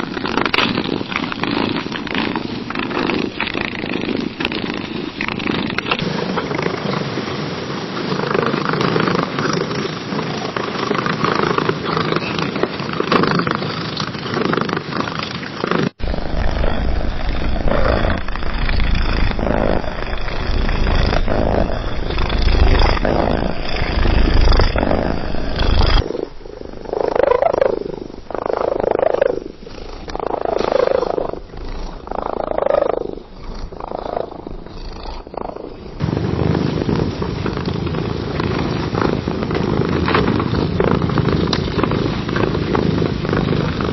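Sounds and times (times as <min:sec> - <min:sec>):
cat purring: 0:00.0 - 0:07.1, 0:08.1 - 0:43.9.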